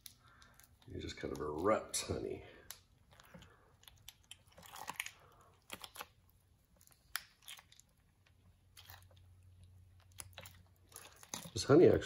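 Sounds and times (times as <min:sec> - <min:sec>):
honeycomb crackling and squelching: 0:00.0 - 0:12.0.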